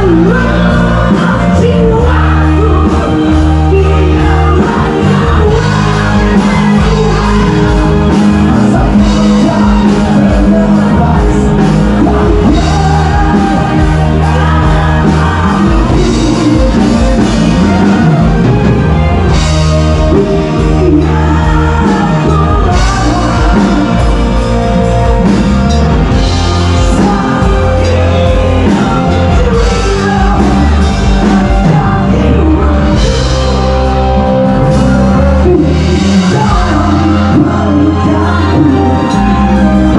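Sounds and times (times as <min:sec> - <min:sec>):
live rock band with singer: 0:00.0 - 0:39.9.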